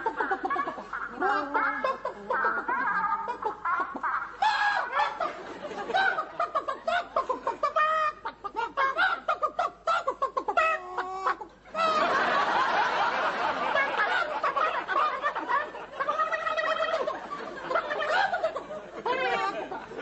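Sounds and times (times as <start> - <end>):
audience laughing: 0.0 - 20.0
people imitating chicken clucks: 0.0 - 20.0.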